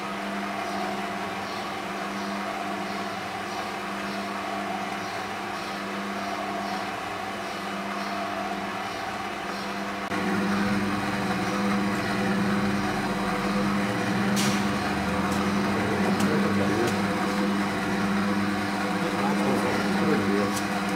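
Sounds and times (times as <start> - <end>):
mixer motor humming: 0.0 - 20.9.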